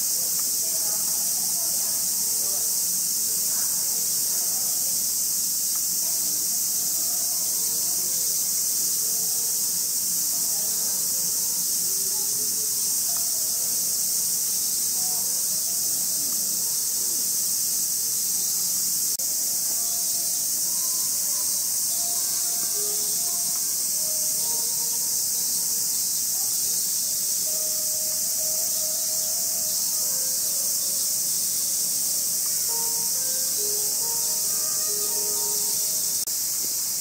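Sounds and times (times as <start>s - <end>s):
faint voices murmuring: 0.0s - 36.2s
cicada chorus: 0.0s - 37.0s.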